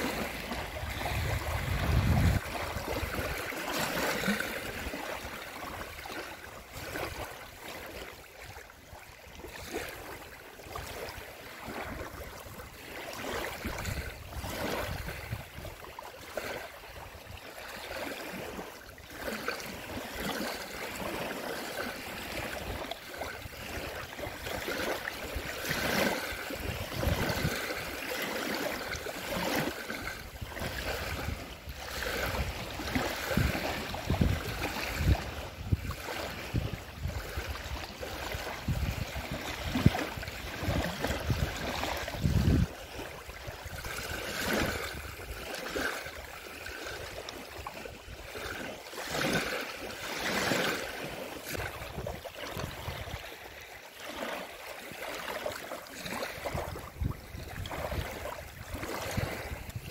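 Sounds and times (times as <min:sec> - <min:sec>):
lake waves lapping on slipway: 0:00.0 - 0:59.9.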